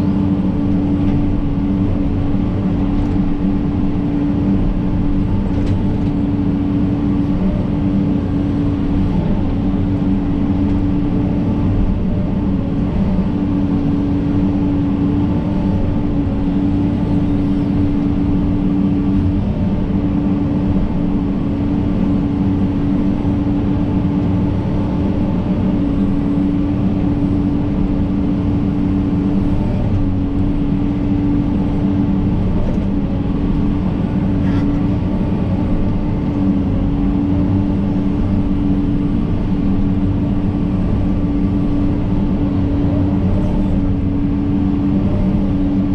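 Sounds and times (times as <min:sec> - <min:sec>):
excavator diesel engine droning: 0:00.0 - 0:45.9.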